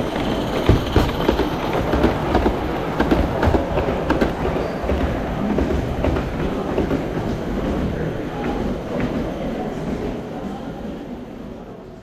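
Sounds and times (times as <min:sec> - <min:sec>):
model locomotive rumble: 0:00.0 - 0:10.4
wheels clicking on rails: 0:00.0 - 0:11.8.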